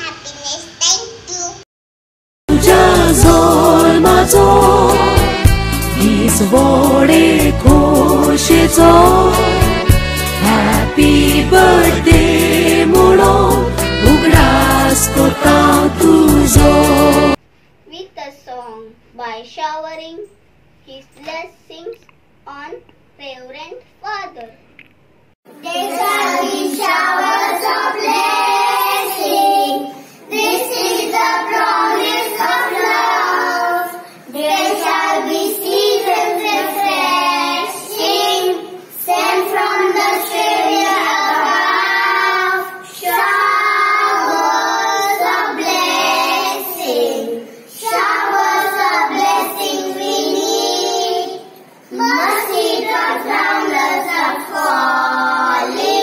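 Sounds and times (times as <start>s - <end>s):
boys singing together: 2.5s - 17.4s, 25.7s - 56.0s.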